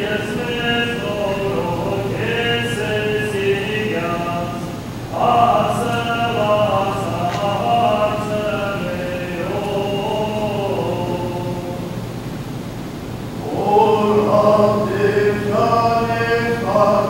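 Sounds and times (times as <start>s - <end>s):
voices singing church chant: 0.0s - 12.4s, 13.2s - 17.0s.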